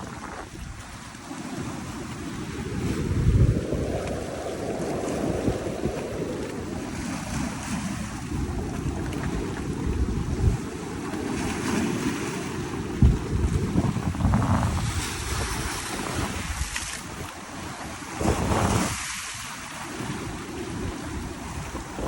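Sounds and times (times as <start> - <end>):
ocean surf washing: 0.0 - 22.0
wind buffeting microphone: 0.0 - 22.0.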